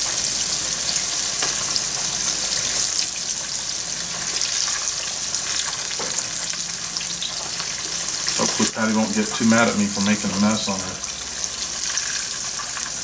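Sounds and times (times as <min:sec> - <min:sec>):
oil sizzling while deep-frying: 0:00.0 - 0:13.0.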